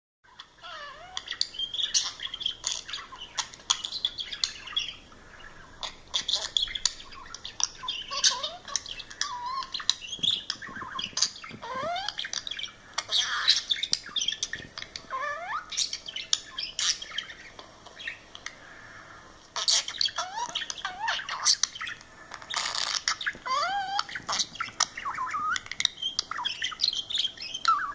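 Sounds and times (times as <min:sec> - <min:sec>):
budgerigar chattering and warbling: 0:00.3 - 0:18.2, 0:19.6 - 0:27.9.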